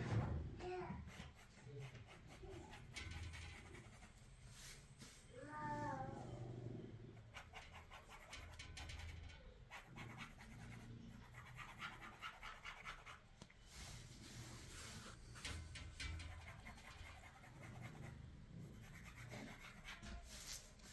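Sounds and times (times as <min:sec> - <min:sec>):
faint scratching and rustling: 0:00.0 - 0:20.9.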